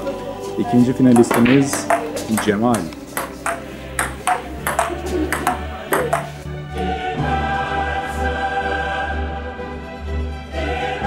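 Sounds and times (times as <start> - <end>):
choir-like chords: 0.0 - 11.0.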